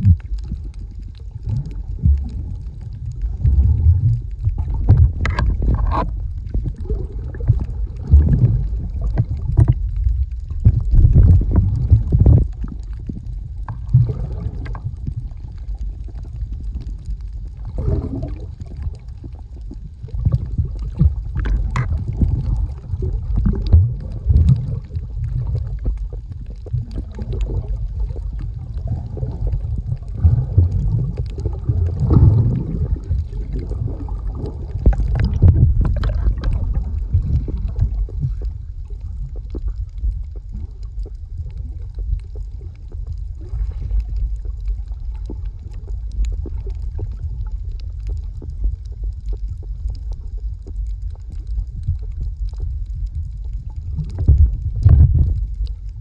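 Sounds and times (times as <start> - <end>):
underwater rumble and gurgling: 0.0 - 56.0.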